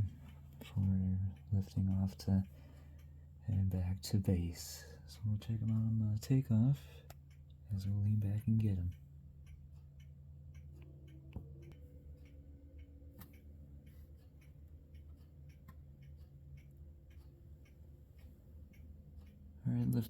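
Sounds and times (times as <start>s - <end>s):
light ticking: 0.0s - 20.0s.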